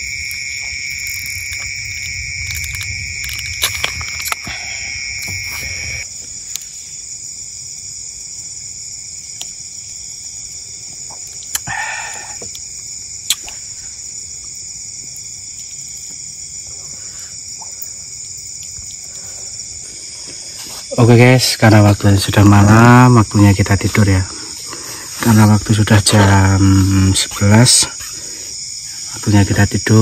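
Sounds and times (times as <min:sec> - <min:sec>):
night insects chorus: 0:00.0 - 0:30.0.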